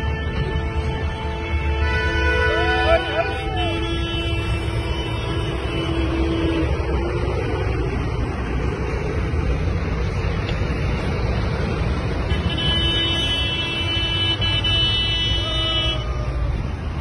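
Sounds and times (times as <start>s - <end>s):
highway traffic passing: 0.0s - 17.0s.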